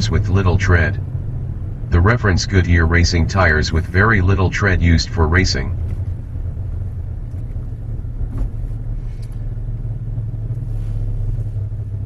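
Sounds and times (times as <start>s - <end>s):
car engine rumbling at low revs: 0.0s - 12.0s.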